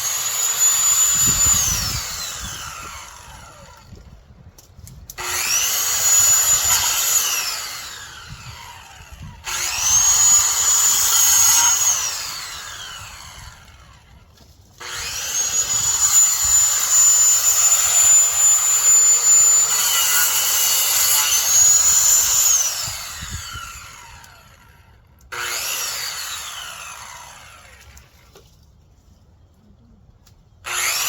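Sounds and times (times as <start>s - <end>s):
electric saw cutting branches: 0.0s - 28.2s, 30.6s - 31.0s.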